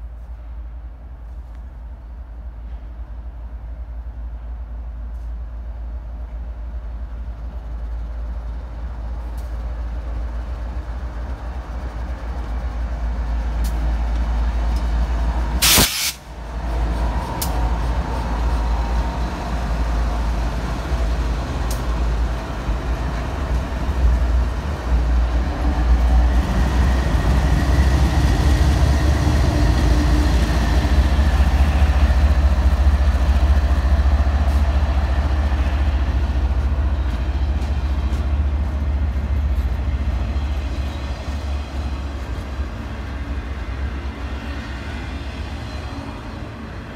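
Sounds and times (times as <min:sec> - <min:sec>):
diesel locomotives passing: 0:00.0 - 0:46.9
train wheels on rails: 0:00.0 - 0:46.9.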